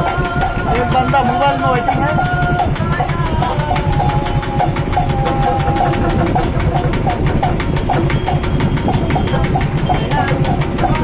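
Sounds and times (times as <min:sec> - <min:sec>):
low twangy rhythmic pulse: 0:00.0 - 0:11.0.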